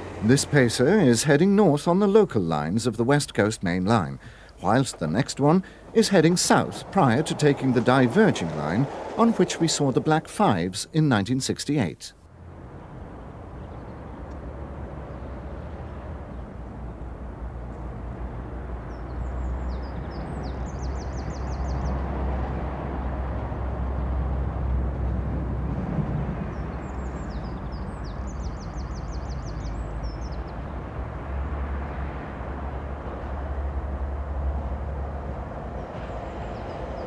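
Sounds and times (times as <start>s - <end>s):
diesel railbus rumbling past: 0.0s - 3.2s, 3.8s - 10.8s, 12.3s - 37.0s.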